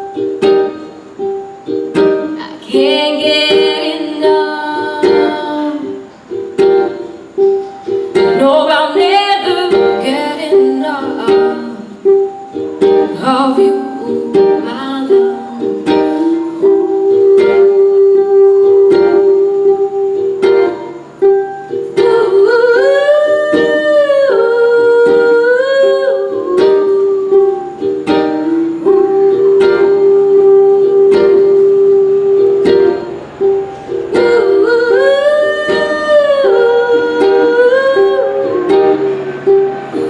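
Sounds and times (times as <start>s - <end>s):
ukulele strumming: 0.0s - 40.0s.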